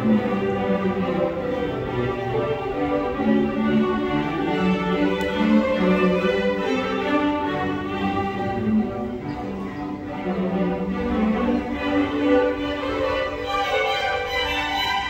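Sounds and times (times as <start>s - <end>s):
cellos bowing: 0.0s - 15.0s
violins bowing: 0.0s - 15.0s.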